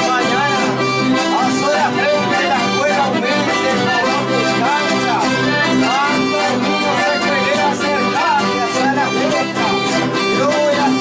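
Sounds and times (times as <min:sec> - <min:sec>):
accordion melody: 0:00.0 - 0:11.0
steady band accompaniment: 0:00.0 - 0:11.0.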